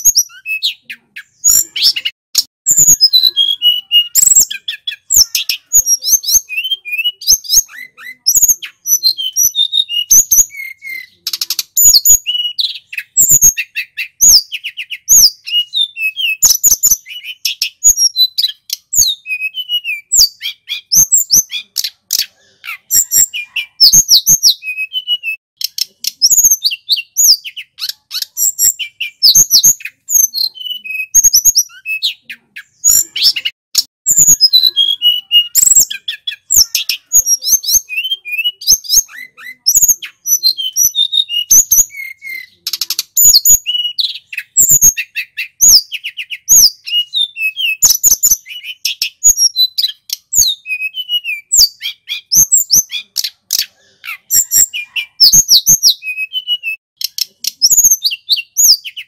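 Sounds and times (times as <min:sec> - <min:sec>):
bird singing whistled notes: 0:00.0 - 0:22.2, 0:22.8 - 0:53.7, 0:54.3 - 0:59.0.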